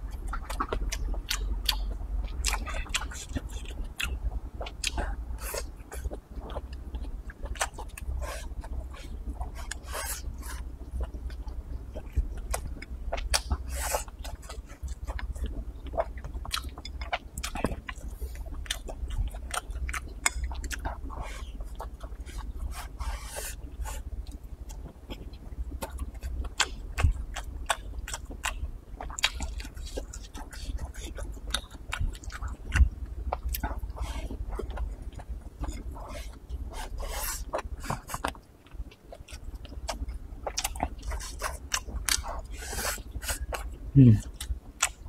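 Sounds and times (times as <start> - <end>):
chewing with wet mouth smacks: 0.0 - 45.0.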